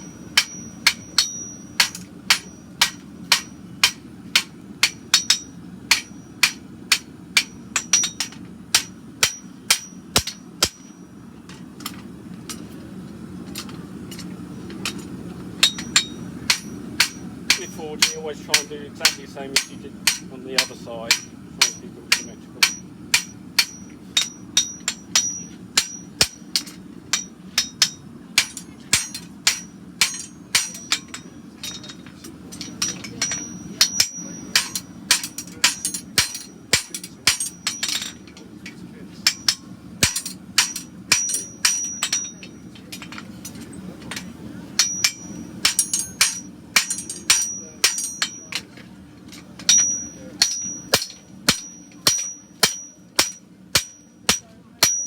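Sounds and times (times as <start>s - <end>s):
hammer striking steel on anvil: 0.0s - 11.1s, 13.6s - 48.8s, 49.4s - 55.0s
gas forge humming: 0.0s - 55.0s.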